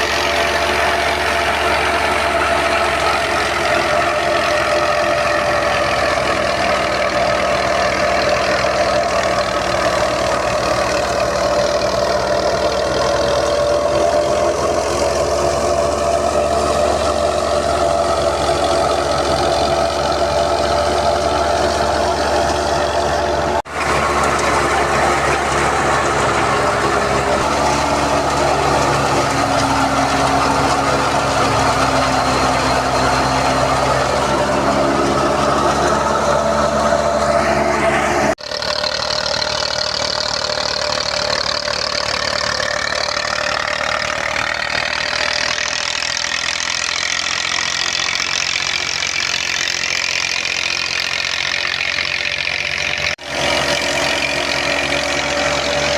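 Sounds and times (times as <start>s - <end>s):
thresher machine drone: 0.0s - 55.9s.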